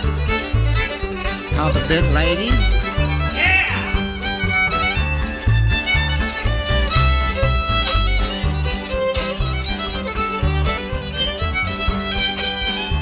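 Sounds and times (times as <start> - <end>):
fiddle-led string band: 0.0 - 13.0.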